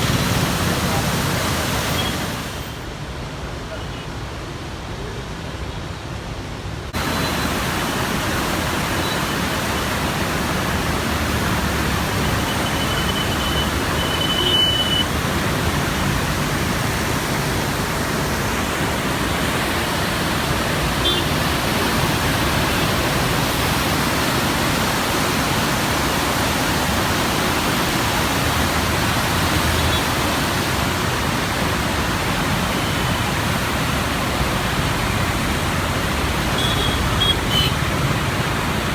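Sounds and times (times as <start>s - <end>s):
floodwater rushing: 0.0s - 3.8s, 6.6s - 38.9s.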